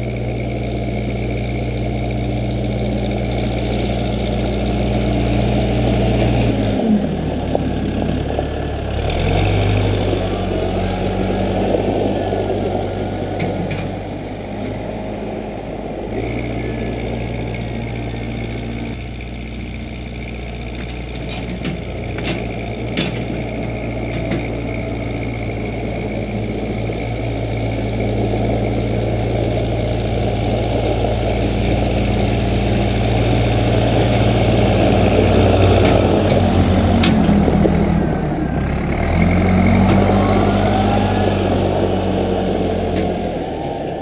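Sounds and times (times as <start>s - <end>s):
backhoe engine running: 0.0s - 44.0s.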